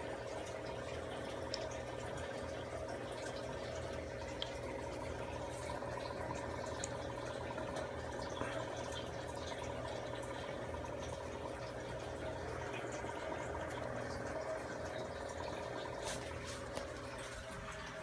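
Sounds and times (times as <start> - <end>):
aquarium water trickling and bubbling: 0.0 - 18.0
low steady hum: 0.0 - 18.0
small drips and pops: 0.0 - 18.0.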